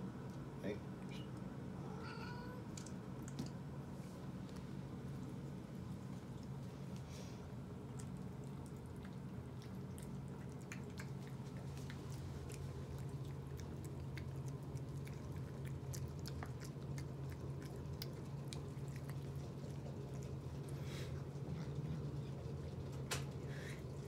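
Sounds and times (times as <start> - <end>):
cat chewing and licking: 4.3 - 24.0.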